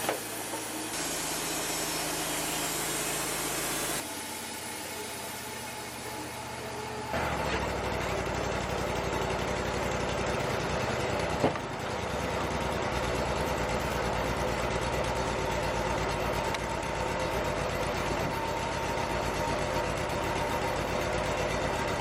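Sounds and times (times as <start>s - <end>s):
sawmill engine idling: 0.0s - 22.0s.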